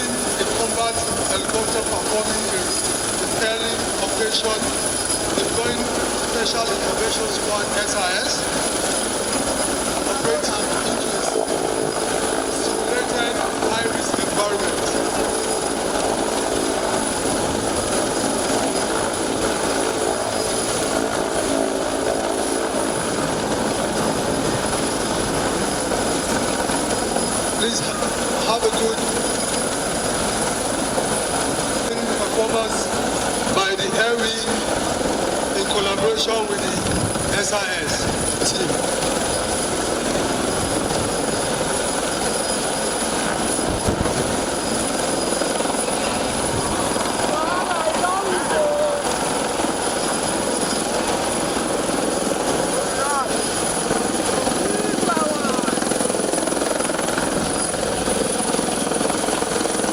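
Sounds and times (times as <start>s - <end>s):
helicopter hovering: 0.0s - 59.9s.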